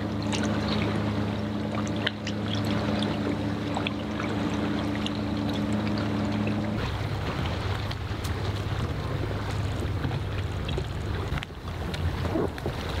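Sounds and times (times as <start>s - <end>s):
water drips and splashes: 0.0s - 13.0s
water lapping against hull: 0.0s - 13.0s.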